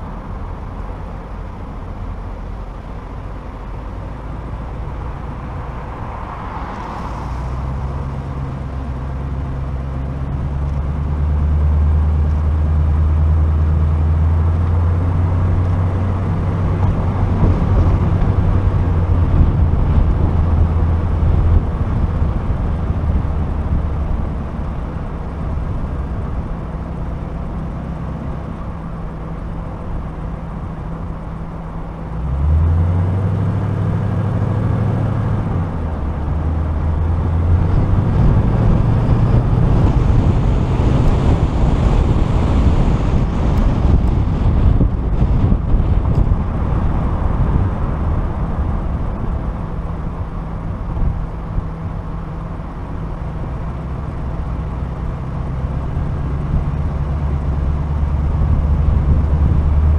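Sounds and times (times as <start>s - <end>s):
car engine running: 0.0s - 59.9s
road noise: 0.0s - 59.9s
wind noise: 4.8s - 27.4s, 29.7s - 59.9s.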